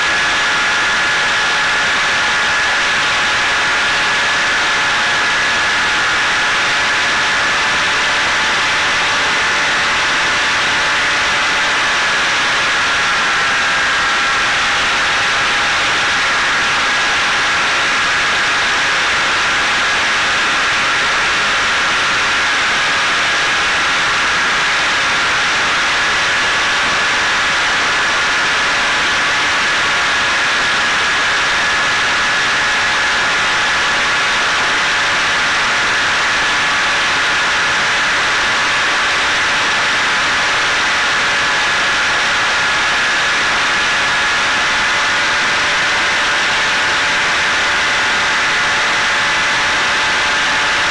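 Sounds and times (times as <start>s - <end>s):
drone motor whine: 0.0s - 50.9s.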